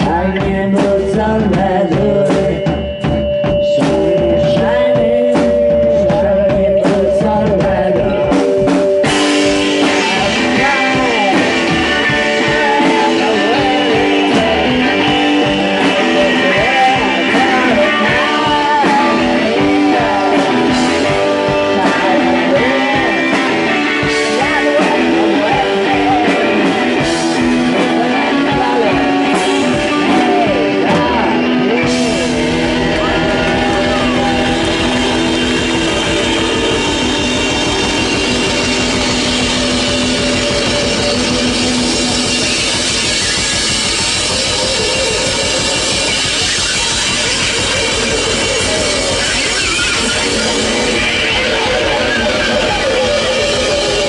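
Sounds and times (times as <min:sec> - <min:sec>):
rock band playing live: 0:00.0 - 0:54.0
wailing electric guitar: 0:00.0 - 0:54.0.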